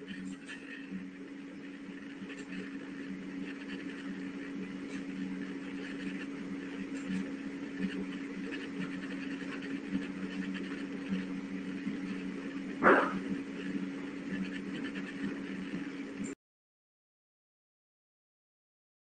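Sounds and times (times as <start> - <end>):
electrical hum and hiss: 0.0 - 16.4.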